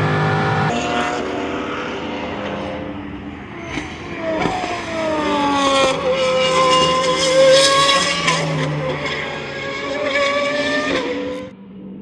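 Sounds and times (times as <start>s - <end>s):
race car engine at speed: 0.0s - 12.0s.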